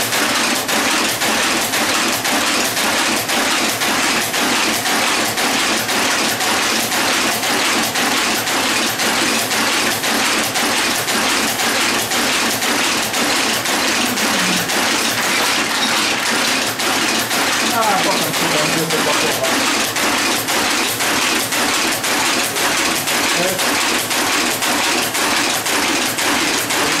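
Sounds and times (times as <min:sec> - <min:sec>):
continuous mechanical din: 0:00.0 - 0:27.0
machine clattering rhythmically: 0:00.0 - 0:27.0.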